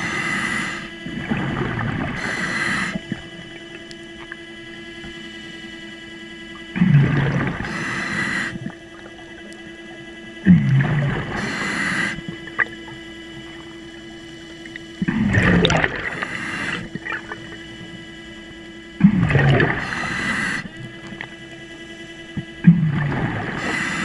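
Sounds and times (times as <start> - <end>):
scuba regulator bubbling: 0.0 - 24.0
underwater scooter motor hum: 0.0 - 24.0.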